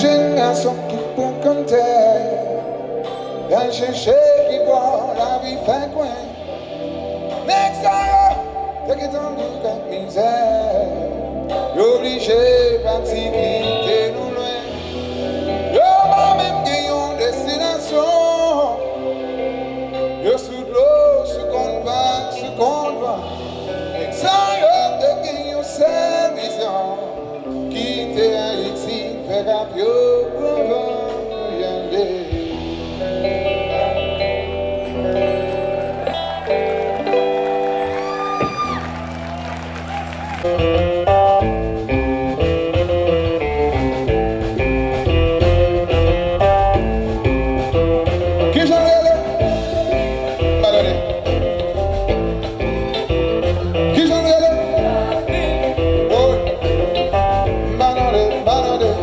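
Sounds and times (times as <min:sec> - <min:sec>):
man singing: 0:00.0 - 0:37.8, 0:40.4 - 0:59.0
live band with guitar: 0:00.0 - 0:59.0.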